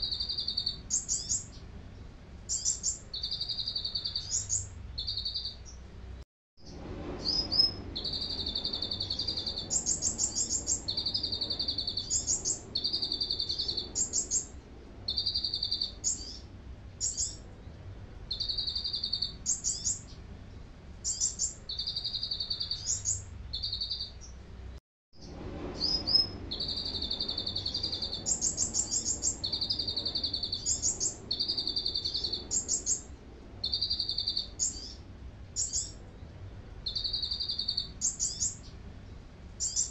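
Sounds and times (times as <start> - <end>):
bird singing trills: 0.0 - 1.7, 2.5 - 5.8, 6.7 - 20.2, 21.0 - 24.4, 25.8 - 35.0, 35.6 - 38.8, 39.6 - 39.9
low steady hum: 0.0 - 39.9.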